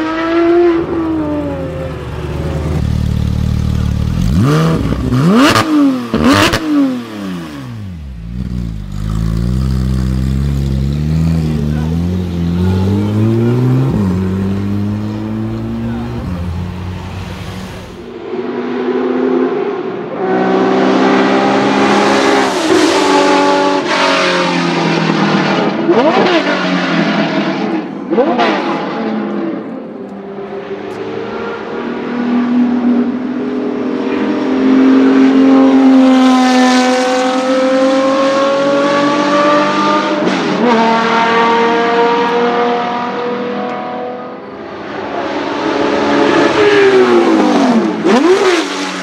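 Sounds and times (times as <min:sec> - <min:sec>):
race car engine passing: 0:00.0 - 0:49.0.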